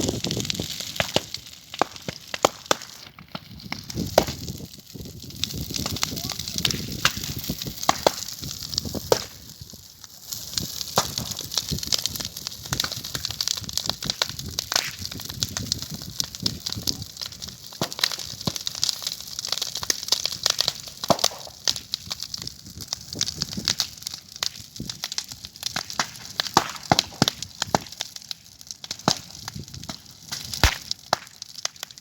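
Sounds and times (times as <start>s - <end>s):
bonfire crackling and popping: 0.0s - 32.0s
fire hiss: 3.6s - 32.0s.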